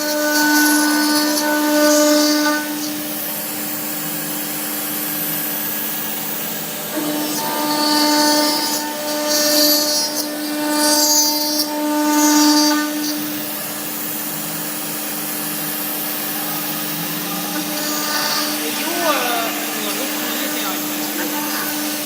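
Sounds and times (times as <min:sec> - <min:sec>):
cutter milling metal plate: 0:00.0 - 0:22.0
router spindle whine: 0:00.0 - 0:22.0.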